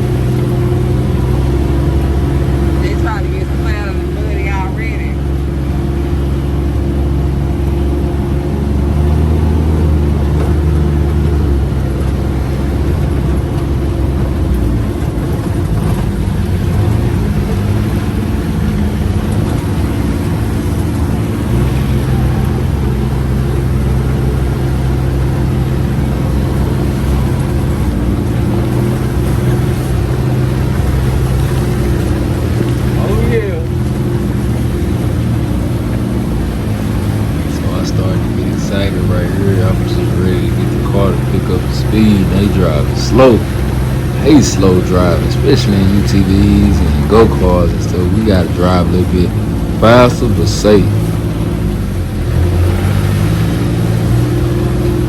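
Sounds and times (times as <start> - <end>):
utv engine revving: 0.0 - 55.0.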